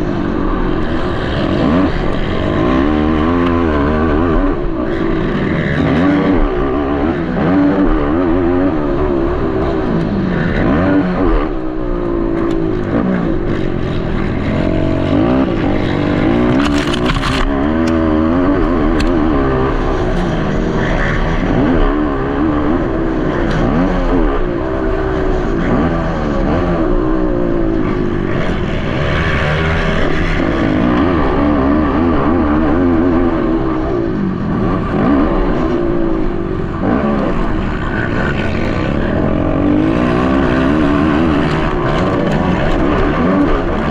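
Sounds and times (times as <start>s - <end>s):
quad engines revving: 0.0s - 43.9s.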